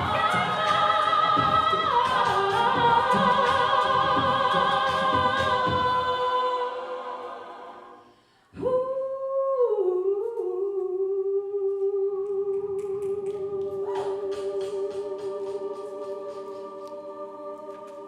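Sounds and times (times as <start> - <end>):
a cappella sung chord: 0.0 - 18.0.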